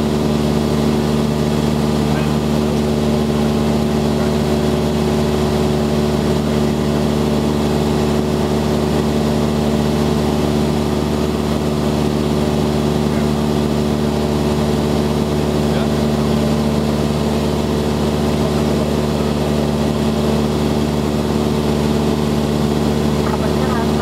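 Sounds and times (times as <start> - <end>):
airplane engine and propeller: 0.0 - 24.0.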